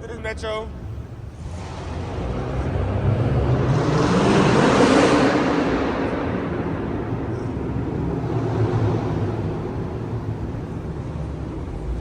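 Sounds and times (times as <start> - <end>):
low rumble: 0.7 - 12.0
car engine passing by: 1.2 - 12.0.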